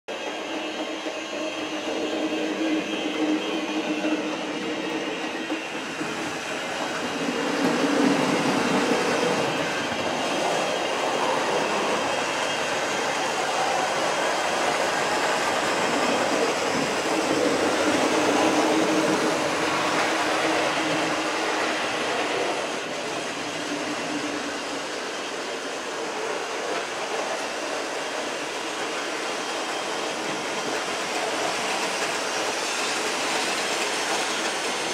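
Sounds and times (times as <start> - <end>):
model trains rattling on track: 0.1 - 34.9.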